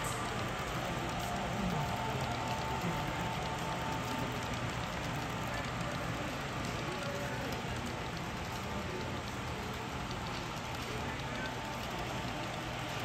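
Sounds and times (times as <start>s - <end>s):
crowd voices din: 0.0s - 13.0s.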